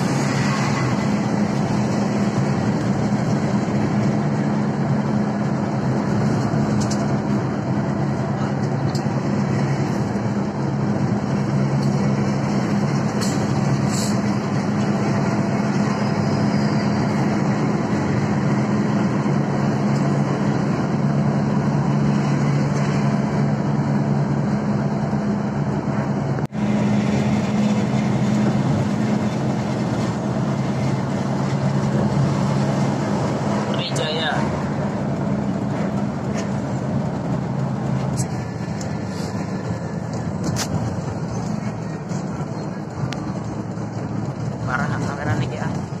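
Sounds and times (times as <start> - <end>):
bus engine drone: 0.0 - 46.0
tyre and road noise: 0.0 - 46.0.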